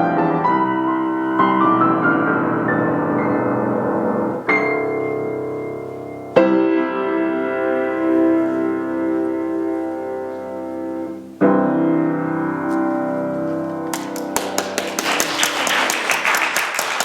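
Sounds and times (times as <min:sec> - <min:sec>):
slow piano prelude: 0:00.0 - 0:17.0.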